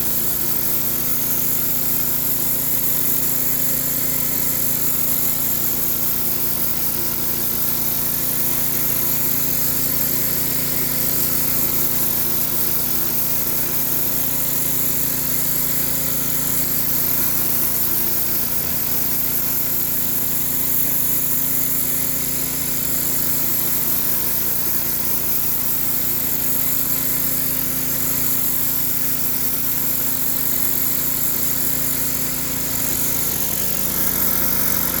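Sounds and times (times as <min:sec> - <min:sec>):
pressure washer engine running: 0:00.0 - 0:35.0
water spraying onto concrete: 0:00.0 - 0:35.0.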